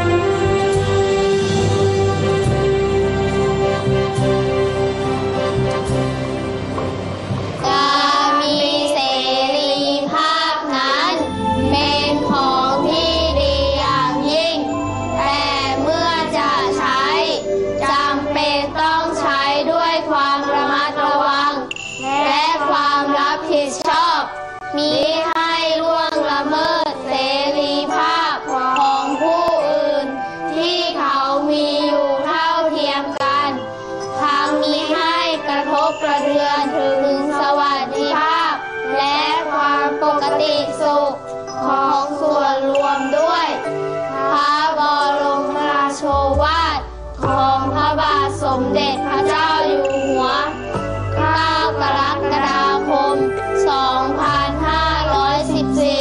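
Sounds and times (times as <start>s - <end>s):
musical accompaniment: 0.0s - 56.0s
children singing: 7.6s - 56.0s.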